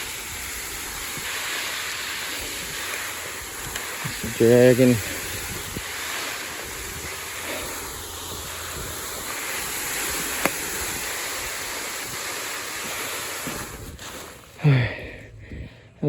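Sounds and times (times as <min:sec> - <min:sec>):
tarp scraping across ground: 0:00.0 - 0:14.9.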